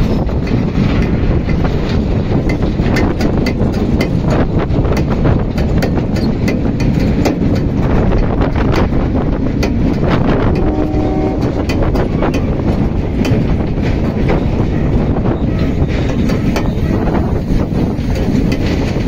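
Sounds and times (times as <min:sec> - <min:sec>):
train rumble: 0:00.0 - 0:19.0
wheels clicking and clattering: 0:00.0 - 0:19.0
wind on the microphone: 0:00.0 - 0:19.0.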